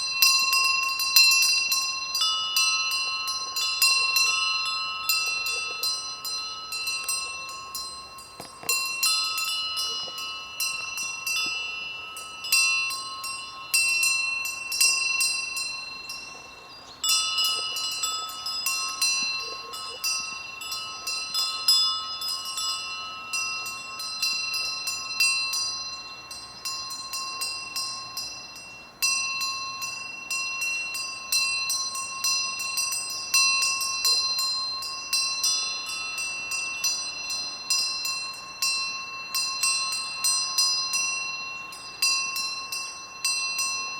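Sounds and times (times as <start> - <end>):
sheep bells ringing: 0.0 - 43.9.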